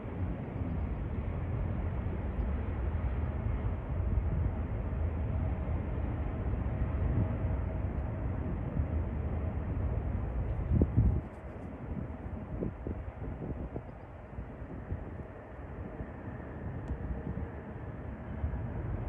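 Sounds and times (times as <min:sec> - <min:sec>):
faint steady whine: 0:00.0 - 0:19.0
jet engines rumbling: 0:00.0 - 0:19.0.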